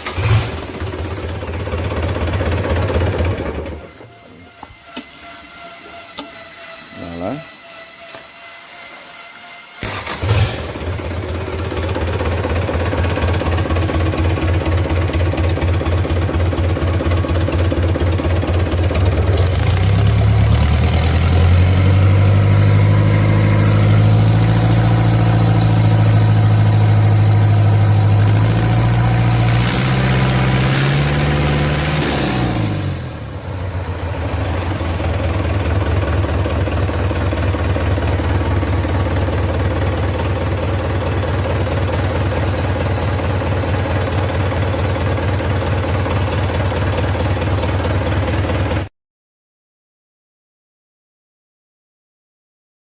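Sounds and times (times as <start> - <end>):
diesel engine idling and revving: 0.0 - 4.5, 9.8 - 48.9.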